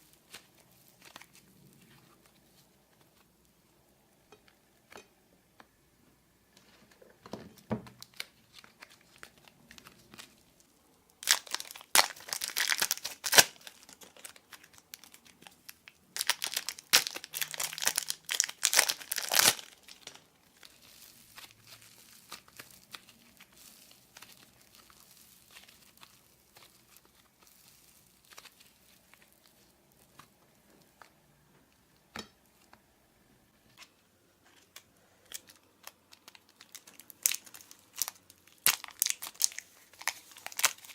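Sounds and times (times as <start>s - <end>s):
packaging crinkling and tearing: 0.0s - 3.2s, 7.8s - 31.1s, 34.5s - 40.9s.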